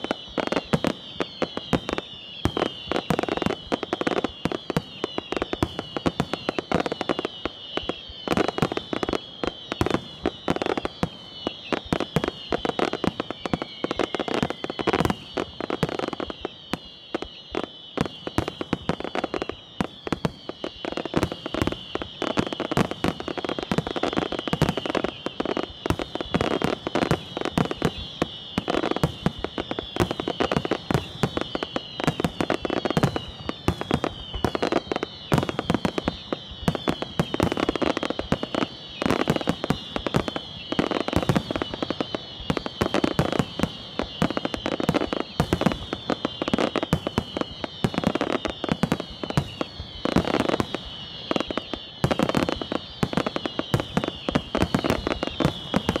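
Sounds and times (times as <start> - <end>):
firework bursts and crackles: 0.0 - 56.0
firework whistles: 0.0 - 56.0.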